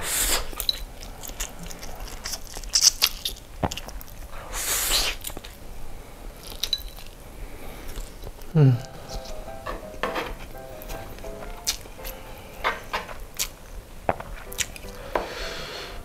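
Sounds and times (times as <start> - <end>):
moist chewing: 0.4 - 4.4, 5.1 - 15.0.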